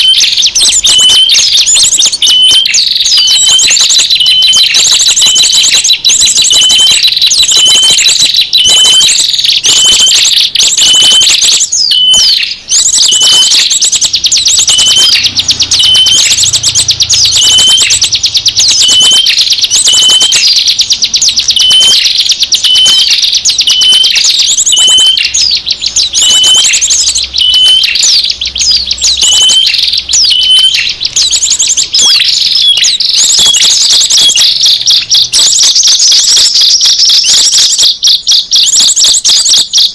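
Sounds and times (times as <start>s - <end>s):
high-pitched bird chirps and trills: 0.0s - 39.9s.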